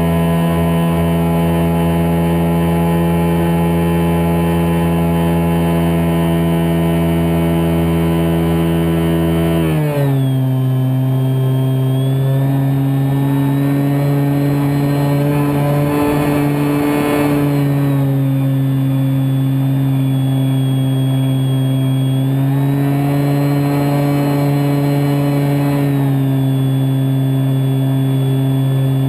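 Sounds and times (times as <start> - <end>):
electric motor and propeller drone: 0.0 - 29.0.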